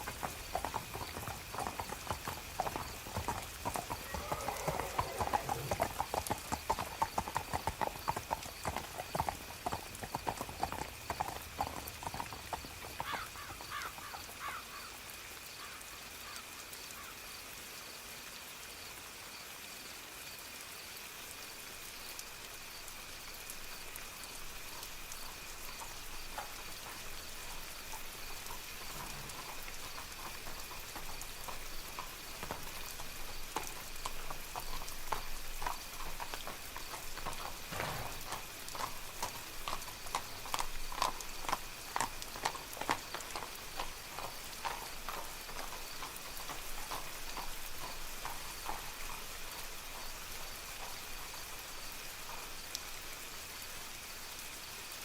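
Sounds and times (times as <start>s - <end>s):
horse hooves clip-clopping: 0.0s - 14.8s, 22.2s - 53.2s
soft steady rain: 0.0s - 55.0s.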